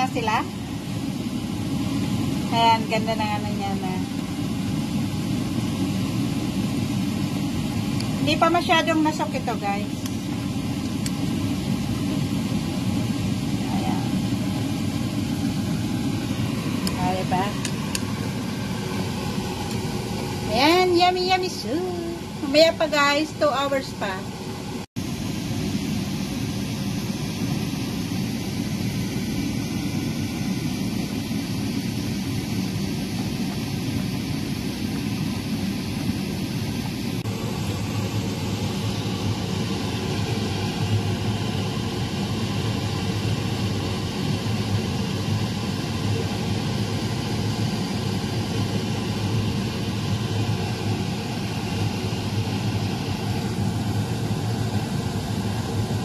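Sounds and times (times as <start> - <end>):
steady rushing fan-like noise: 0.0 - 56.0.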